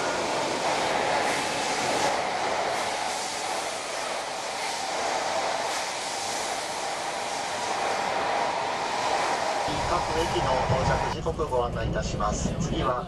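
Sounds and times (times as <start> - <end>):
train rushing whir: 0.0 - 13.0.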